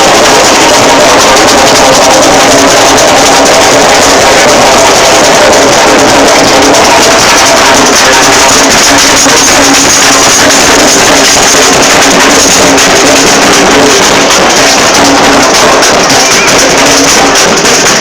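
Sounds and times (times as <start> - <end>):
brass band playing with drums: 0.0 - 18.0.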